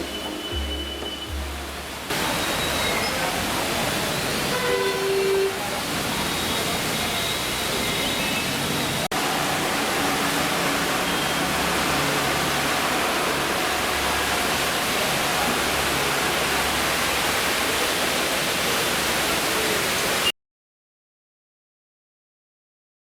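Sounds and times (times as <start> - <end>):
heavy rain pouring: 0.0 - 20.3.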